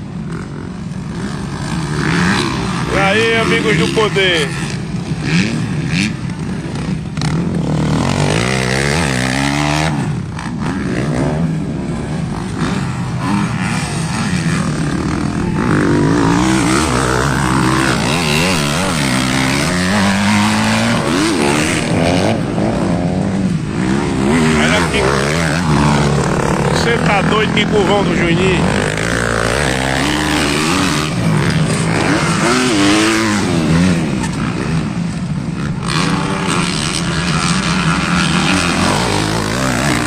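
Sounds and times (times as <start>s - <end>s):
motocross bikes revving: 0.0s - 40.0s
motorbike passing close: 0.0s - 40.0s.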